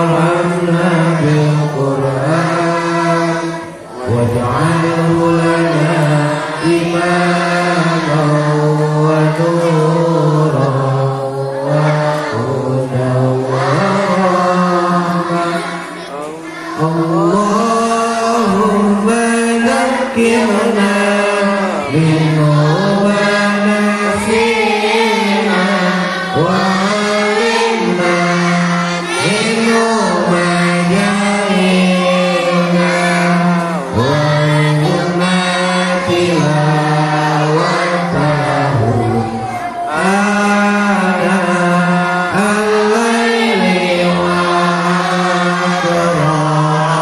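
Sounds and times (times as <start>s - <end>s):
group chanting a prayer: 0.0s - 47.0s.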